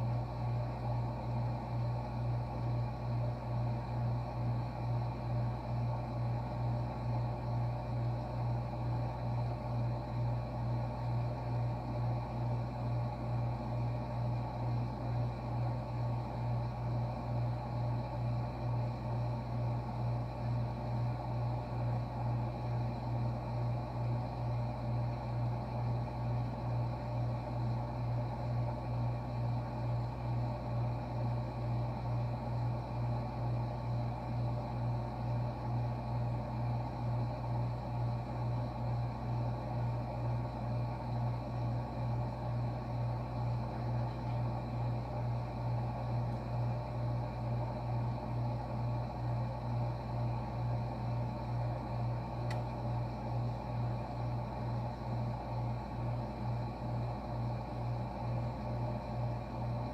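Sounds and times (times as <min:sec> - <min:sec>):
faint steady whine: 0:00.0 - 0:59.9
refrigerator compressor humming: 0:00.0 - 0:59.9.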